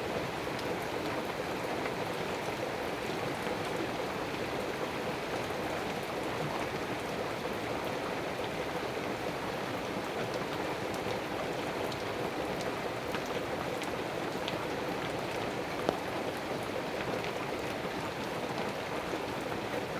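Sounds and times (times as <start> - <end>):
steady rain patter: 0.0 - 19.9.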